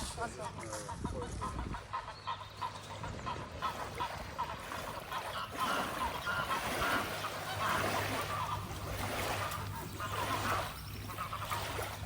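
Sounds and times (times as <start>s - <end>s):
geese honking: 0.2s - 12.0s.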